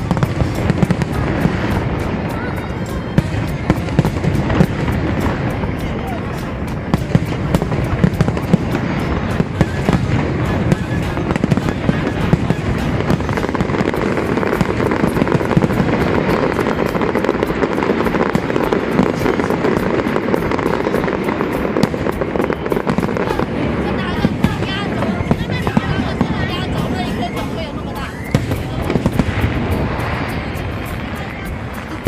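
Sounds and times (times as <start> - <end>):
fireworks crackling pops: 0.0 - 32.0
fireworks rumble: 0.0 - 32.0.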